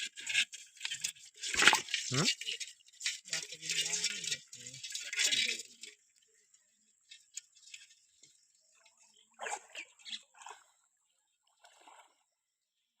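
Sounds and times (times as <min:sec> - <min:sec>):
water splashing and sloshing: 0:00.0 - 0:12.9.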